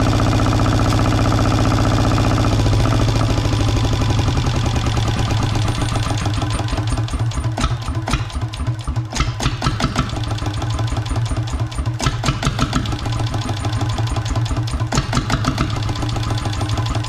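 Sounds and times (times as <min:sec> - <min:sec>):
marine diesel engine running: 0:00.0 - 0:09.2, 0:09.9 - 0:17.0.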